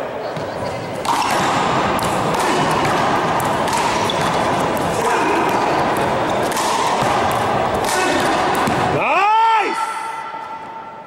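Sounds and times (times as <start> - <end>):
voices in a hall: 0.0 - 11.0.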